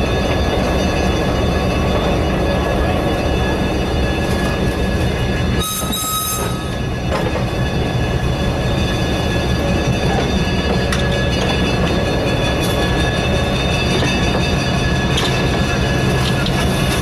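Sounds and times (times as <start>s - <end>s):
high flange squeals: 0.0s - 17.0s
train wheels rumbling on track: 0.0s - 17.0s.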